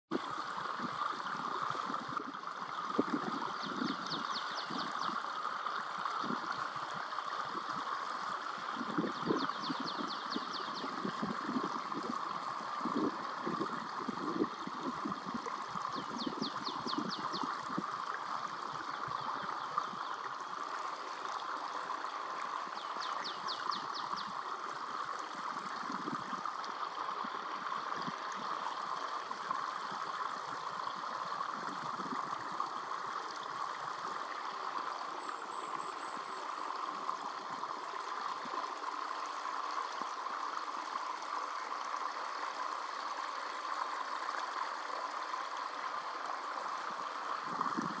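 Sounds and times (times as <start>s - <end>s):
stream water rushing: 0.1s - 48.0s.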